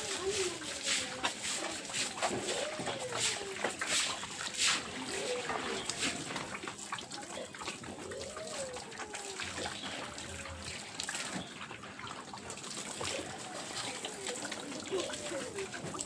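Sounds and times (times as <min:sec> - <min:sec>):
pigs calling: 0:00.0 - 0:16.0
water splashing and trickling: 0:00.0 - 0:16.0.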